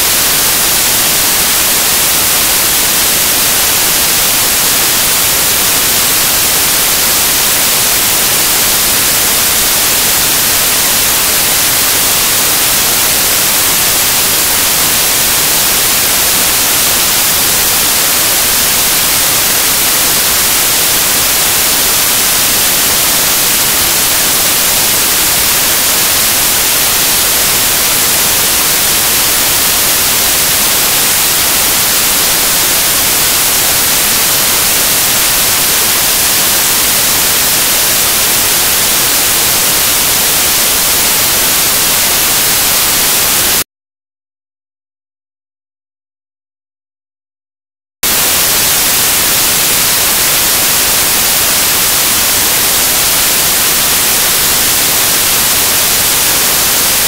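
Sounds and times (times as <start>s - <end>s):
loud static hiss: 0.0s - 43.7s, 48.0s - 57.0s.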